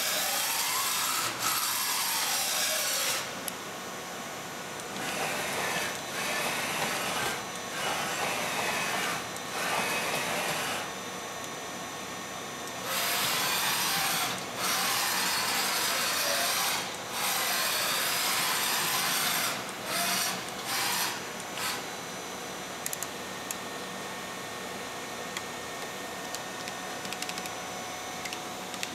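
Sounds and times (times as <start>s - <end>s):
faint machine whine: 0.0s - 28.9s.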